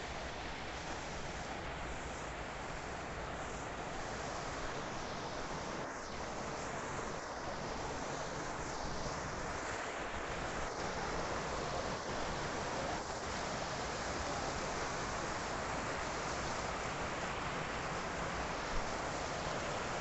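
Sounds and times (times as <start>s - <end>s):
waterfall rushing over rock: 0.0s - 20.0s.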